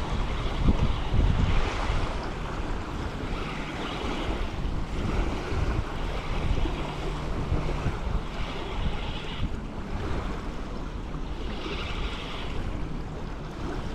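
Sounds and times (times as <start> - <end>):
gusty wind buffeting microphone: 0.0 - 13.9.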